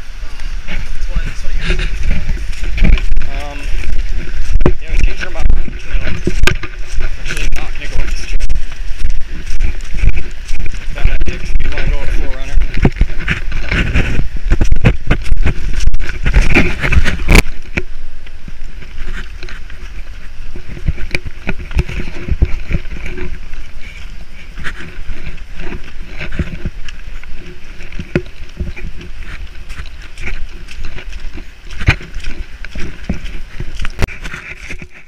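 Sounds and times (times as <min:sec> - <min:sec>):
footsteps of person walking: 0:00.0 - 0:35.0
wind buffeting microphone: 0:00.0 - 0:35.0.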